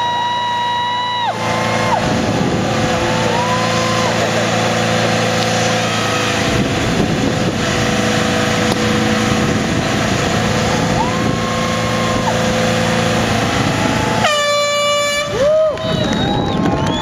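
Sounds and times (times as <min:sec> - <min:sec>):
pickup engine at high revs: 0:00.0 - 0:15.4.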